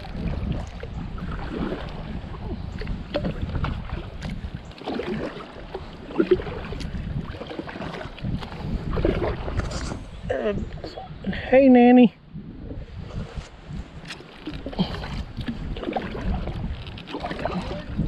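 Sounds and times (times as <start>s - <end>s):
water sloshing around hull: 0.0s - 18.0s
wind on microphone: 0.0s - 18.0s.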